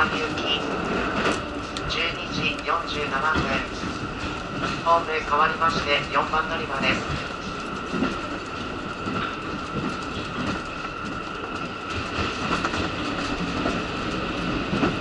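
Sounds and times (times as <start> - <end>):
rumble of wheels and engine: 0.0 - 15.0.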